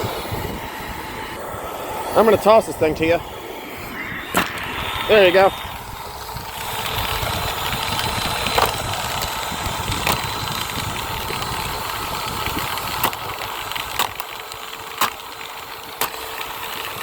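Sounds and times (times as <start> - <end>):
vacuum cleaner motor running: 0.0 - 17.0.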